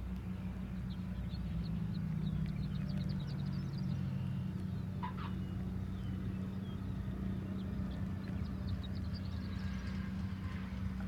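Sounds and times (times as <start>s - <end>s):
plane engine low drone: 0.0s - 11.0s.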